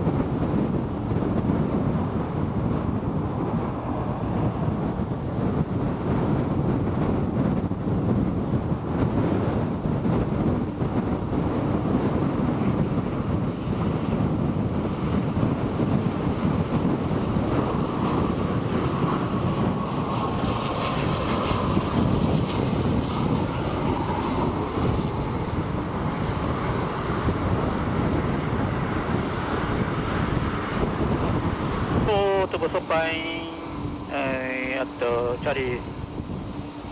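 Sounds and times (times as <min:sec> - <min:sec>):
jet engine whine passing: 0:00.0 - 0:36.9
wind buffeting microphone: 0:00.0 - 0:36.9.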